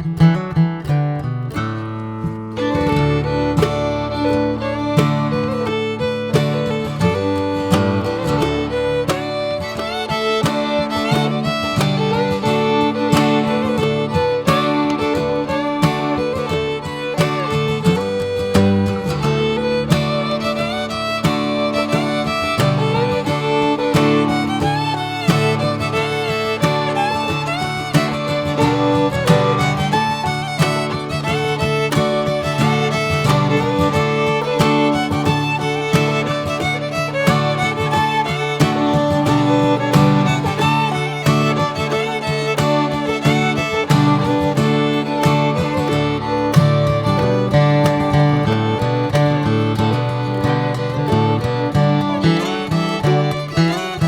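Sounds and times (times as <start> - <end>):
upbeat fiddle and guitar tune: 0.0 - 54.0.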